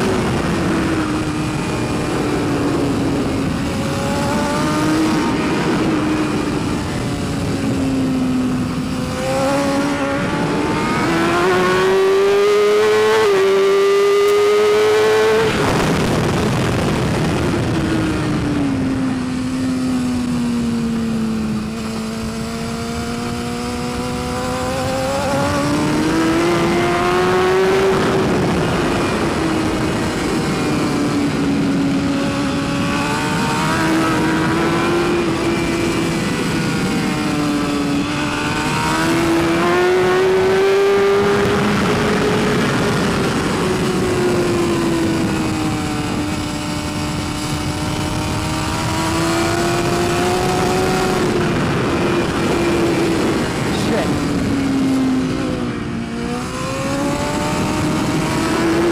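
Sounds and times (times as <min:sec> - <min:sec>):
motorcycle engine at racing speed: 0:00.0 - 0:58.9
wind noise: 0:00.0 - 0:58.9.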